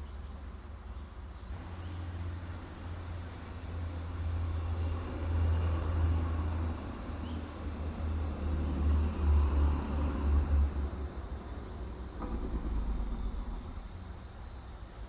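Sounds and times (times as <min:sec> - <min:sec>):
trucks running low rumble: 0:00.5 - 0:15.0.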